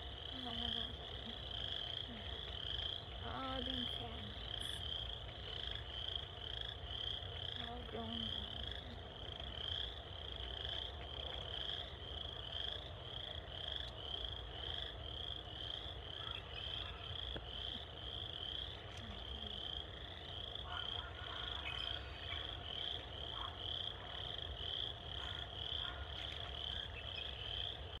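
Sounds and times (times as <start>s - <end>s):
frogs trilling: 0.0s - 28.0s.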